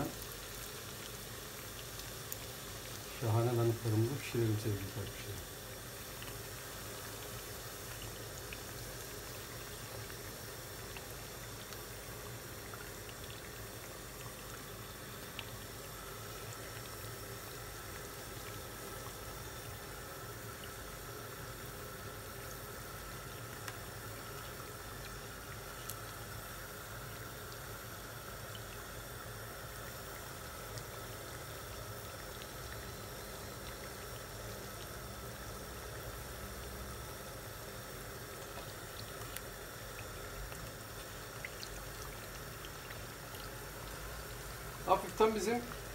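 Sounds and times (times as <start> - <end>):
oil sizzling: 0.0 - 45.9.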